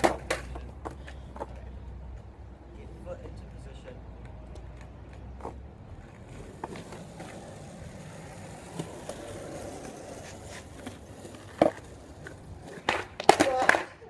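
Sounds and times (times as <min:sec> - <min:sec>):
skateboard clacking: 0:00.0 - 0:02.3, 0:04.2 - 0:14.0
skateboard wheels rolling on concrete: 0:00.0 - 0:14.0.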